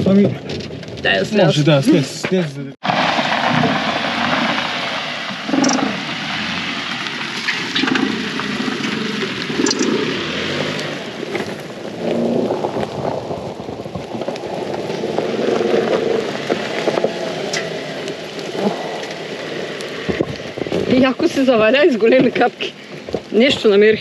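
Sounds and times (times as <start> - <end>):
rain hissing: 2.8 - 24.0
raindrops tapping close by: 3.0 - 24.0.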